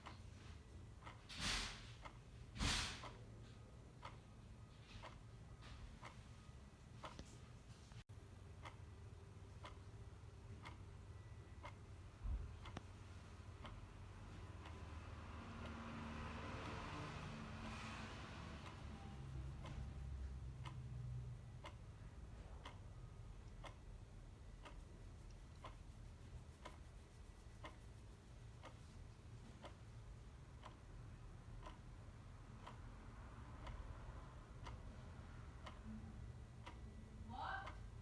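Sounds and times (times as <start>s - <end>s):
clock ticking: 0.0s - 7.3s, 8.1s - 38.0s.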